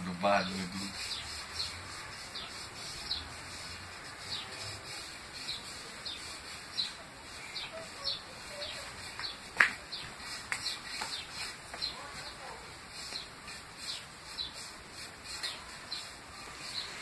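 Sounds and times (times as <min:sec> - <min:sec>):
fingers rubbing paint on canvas: 0:00.4 - 0:17.0.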